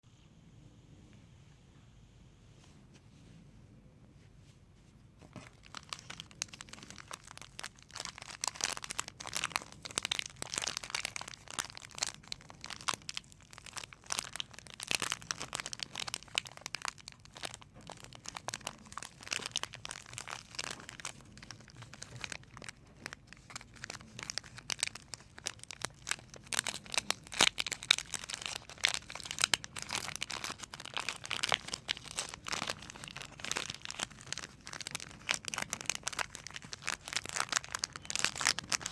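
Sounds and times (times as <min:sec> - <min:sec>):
wrapper crinkling: 0:05.3 - 0:38.9
wrapper tearing: 0:05.4 - 0:38.9.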